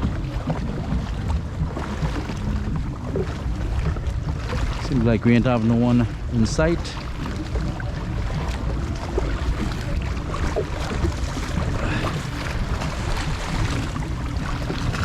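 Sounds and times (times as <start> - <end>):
boat engine low rumble: 0.0 - 15.0
water noise: 0.0 - 15.0
wind: 0.0 - 15.0.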